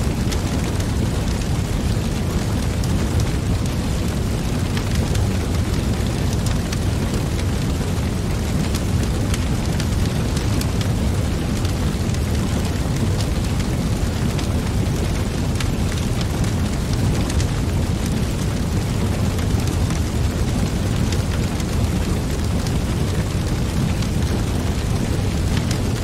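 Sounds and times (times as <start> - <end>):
fire crackling: 0.0 - 26.0
wood fire burning: 0.0 - 26.0.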